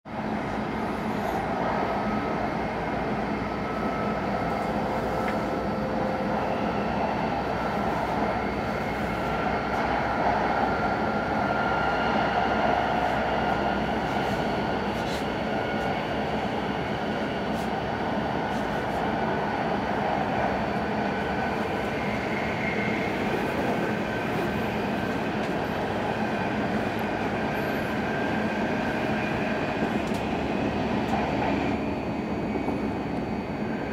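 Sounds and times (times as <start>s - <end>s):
train rumble inside carriage: 0.1s - 33.9s.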